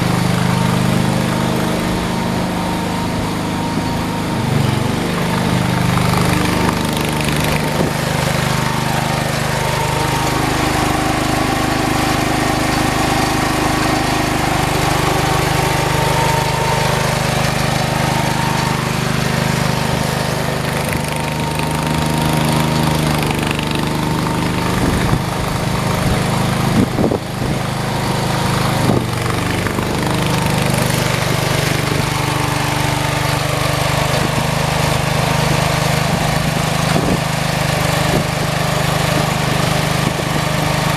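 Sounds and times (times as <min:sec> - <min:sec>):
snow blower engine running: 0:00.0 - 0:40.9.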